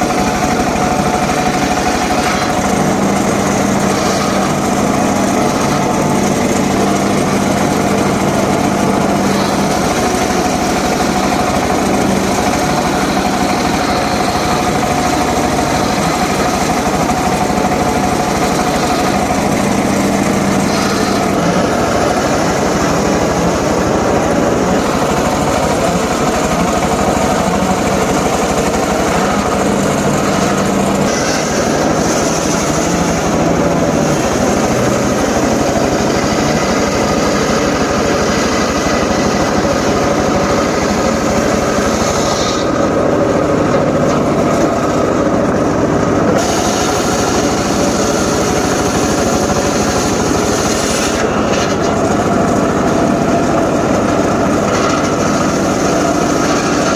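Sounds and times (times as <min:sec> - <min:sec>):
circular saw cutting wood: 0:00.0 - 0:56.9.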